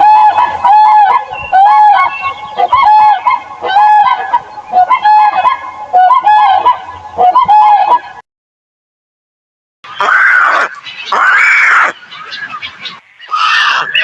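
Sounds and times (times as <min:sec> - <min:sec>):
geese honking: 0:00.0 - 0:08.2, 0:09.9 - 0:14.0.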